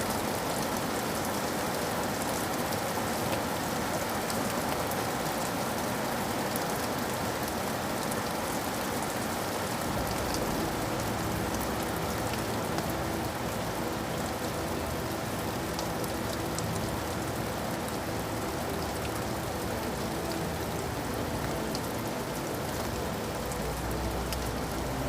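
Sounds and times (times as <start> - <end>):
raindrops ticking on surface: 0.0 - 25.0
steady rain hiss: 0.0 - 25.0.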